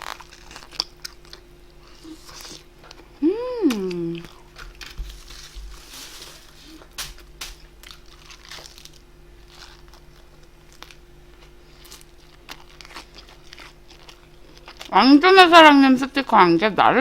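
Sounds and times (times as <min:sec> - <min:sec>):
food chewing and crunching: 0:00.0 - 0:15.5.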